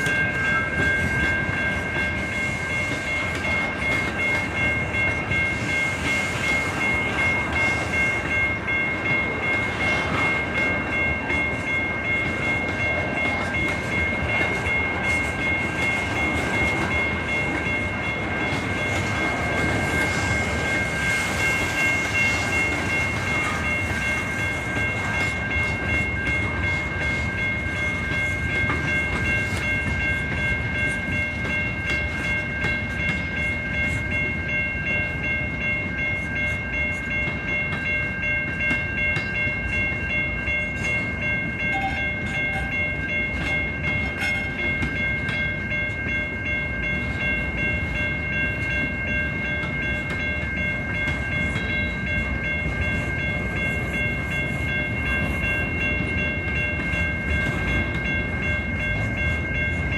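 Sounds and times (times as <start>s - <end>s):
high ringing tone: 0.0s - 59.9s
train wheels clicking over rail joints: 0.0s - 59.9s.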